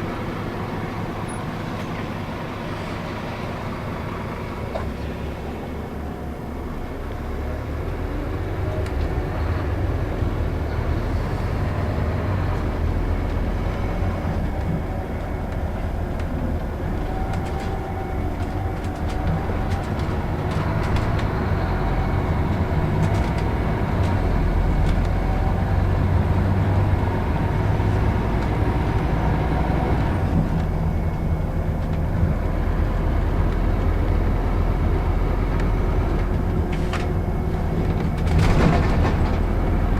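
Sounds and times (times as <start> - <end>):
bus diesel engine running: 0.0 - 39.9
road noise: 0.0 - 39.9.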